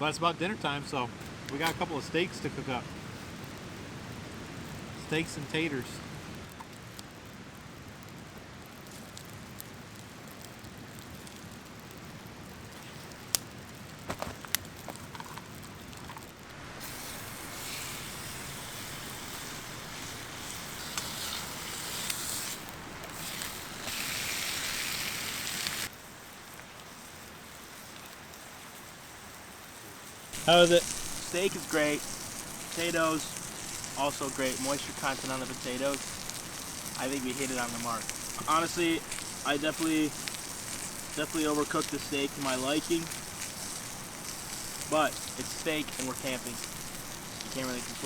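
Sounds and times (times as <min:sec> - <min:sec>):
steaks sizzling over campfire: 0:00.0 - 0:48.0
fire popping: 0:00.9 - 0:48.0.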